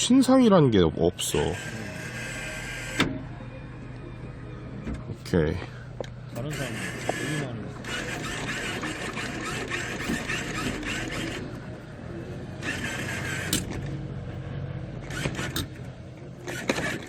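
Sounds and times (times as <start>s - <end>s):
claw machine crane humming: 0.0s - 17.0s.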